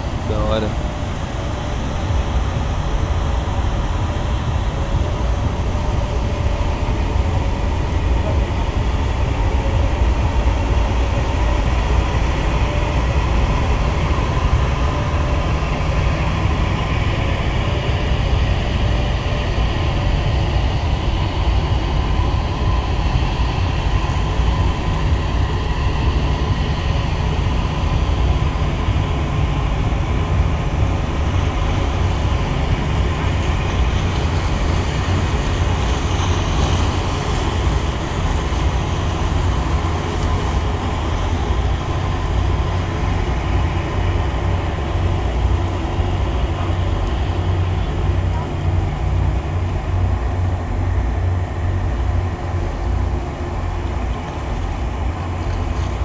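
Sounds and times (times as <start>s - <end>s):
faint steady tones: 0.0s - 56.0s
vehicle rumbling in motion: 0.0s - 56.0s.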